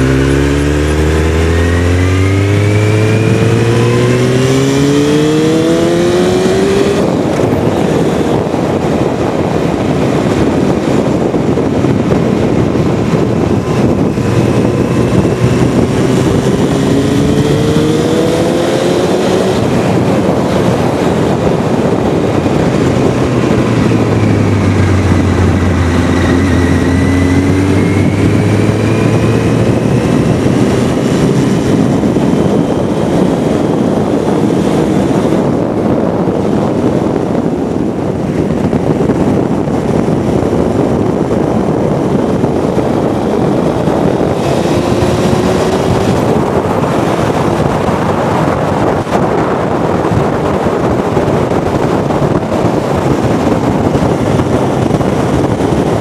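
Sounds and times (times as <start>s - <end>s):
motorcycle engines accelerating: 0.0s - 56.0s
wind and road noise: 0.0s - 56.0s.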